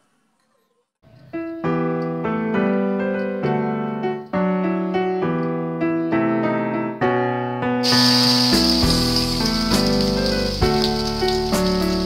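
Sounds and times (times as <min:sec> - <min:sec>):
slow piano melody: 0:01.1 - 0:12.0.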